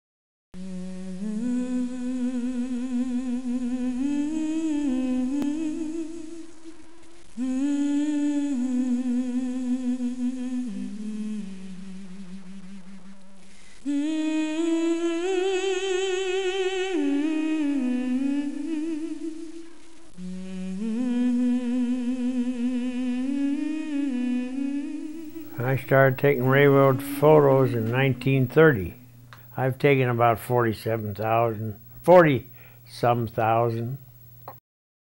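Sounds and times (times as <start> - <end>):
person humming a slow melody: 0.6 - 29.6.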